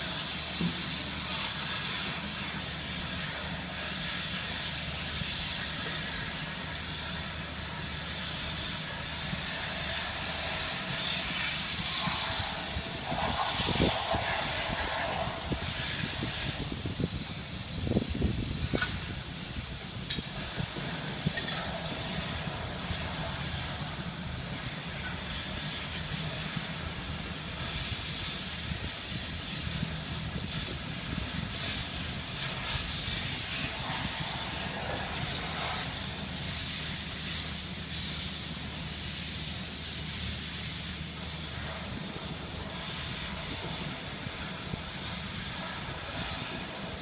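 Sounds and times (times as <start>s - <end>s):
construction machinery engine hum: 0.0s - 47.0s
rushing hiss: 0.0s - 47.0s.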